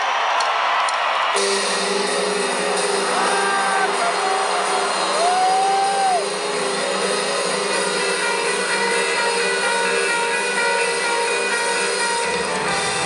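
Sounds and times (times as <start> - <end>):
arena crowd noise: 0.0 - 13.0.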